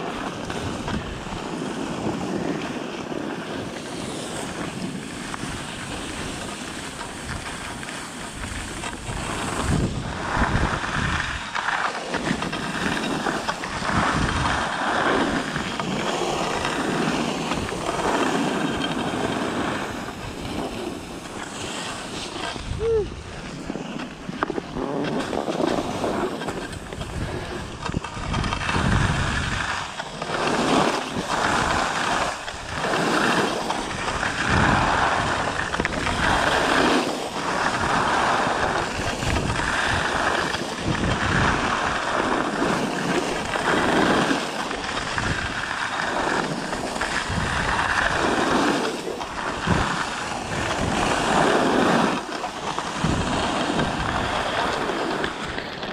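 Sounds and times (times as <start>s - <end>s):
skis scraping on packed snow: 0.0s - 55.9s
wind rumbling on microphone: 0.0s - 55.9s.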